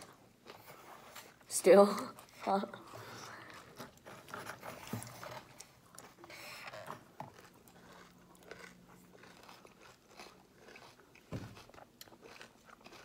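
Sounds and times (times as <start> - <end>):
chewing and crunching cereal: 0.0 - 13.0.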